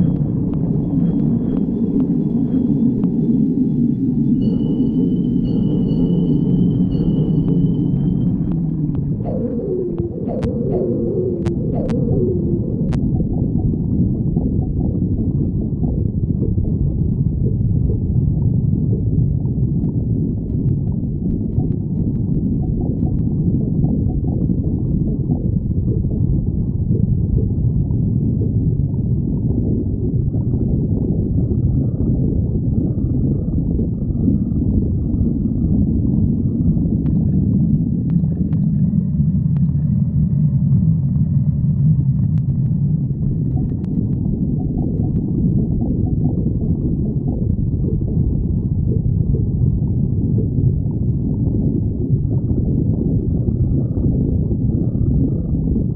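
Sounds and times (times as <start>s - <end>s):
stomach growling: 6.9s - 55.9s.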